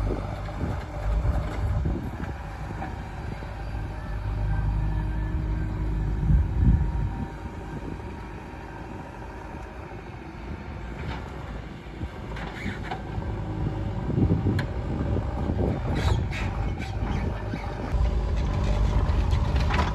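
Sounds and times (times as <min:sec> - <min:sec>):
diesel engine under load: 0:00.0 - 0:19.9.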